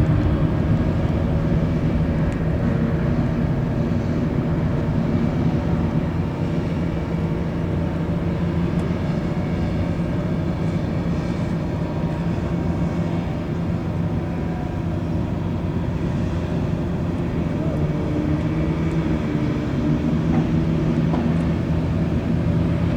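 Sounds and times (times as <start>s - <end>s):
steady engine drone: 0.0s - 22.9s.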